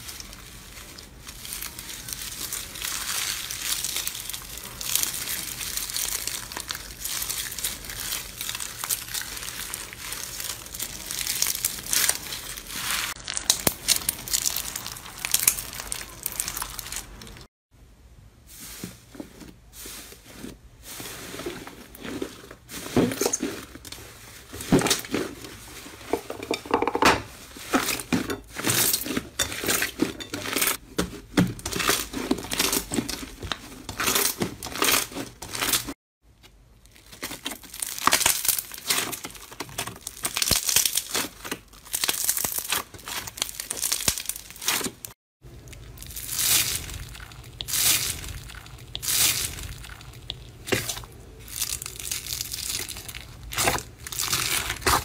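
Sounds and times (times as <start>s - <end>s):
slime crackling and squelching: 0.0s - 17.5s, 18.6s - 26.4s, 27.3s - 36.0s, 36.7s - 55.0s.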